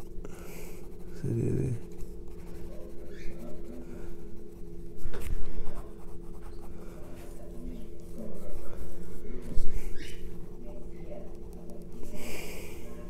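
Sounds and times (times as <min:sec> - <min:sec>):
pencil scratching on paper: 0:00.0 - 0:12.5
steady hum: 0:00.0 - 0:13.0.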